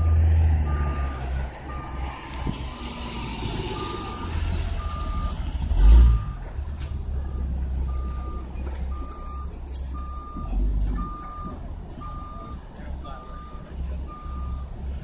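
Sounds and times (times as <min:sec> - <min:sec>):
truck engine running: 0:00.0 - 0:15.0
truck reversing alarm beeps: 0:00.0 - 0:15.0.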